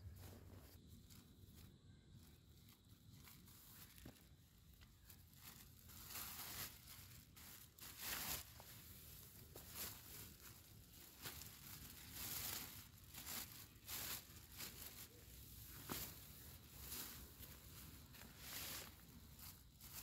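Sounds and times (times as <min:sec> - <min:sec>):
crinkly rustling of bivvy bag: 0:00.0 - 0:20.0.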